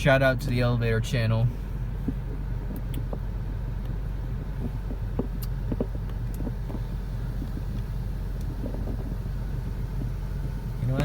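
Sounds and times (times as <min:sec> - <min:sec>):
low rumble: 0:01.2 - 0:11.0
liquid ticking on car body: 0:01.9 - 0:11.0.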